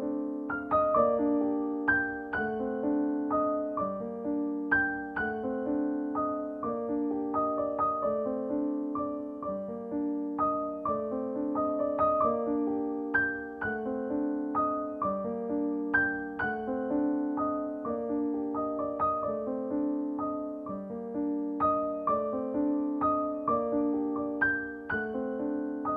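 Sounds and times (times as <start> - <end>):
soft piano music: 0.0 - 25.9.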